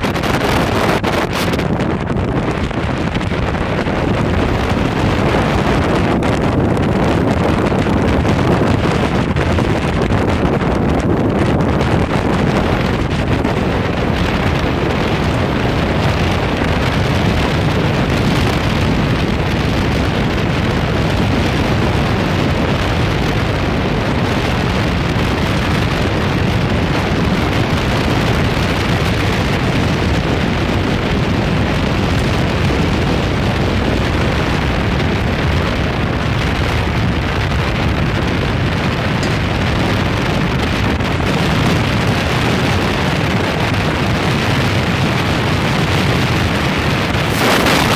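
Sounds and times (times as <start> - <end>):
strong wind buffeting microphone: 0.0 - 47.9.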